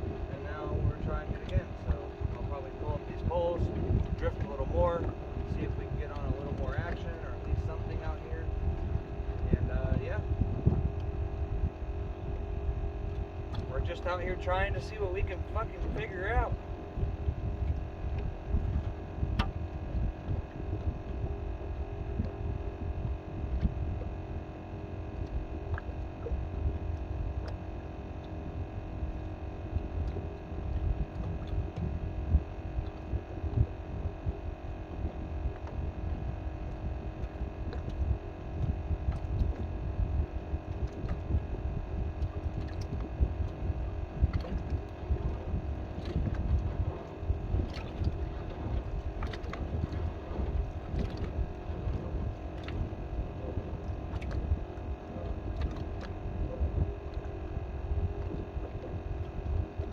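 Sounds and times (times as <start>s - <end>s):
hum of held tones: 0.0s - 59.9s
wind on microphone: 0.0s - 59.9s.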